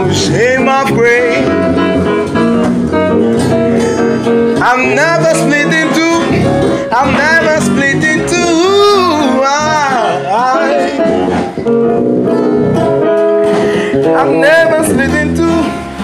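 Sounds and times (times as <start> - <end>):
electric bass: 0.0 - 16.0
keyboard chords: 0.0 - 16.0.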